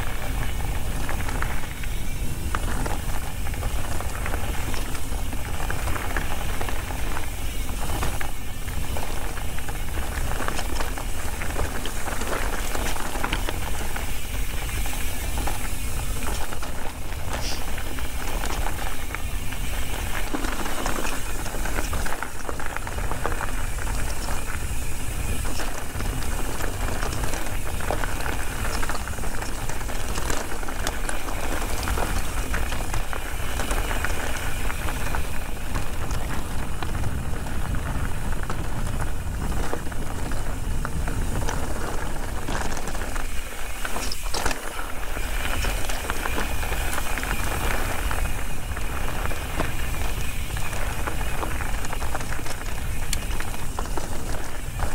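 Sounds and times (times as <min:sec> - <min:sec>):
bike rattling: 0:00.0 - 0:54.9
tyres crunching over gravel: 0:00.0 - 0:54.9
wind rumble on microphone: 0:00.0 - 0:54.9.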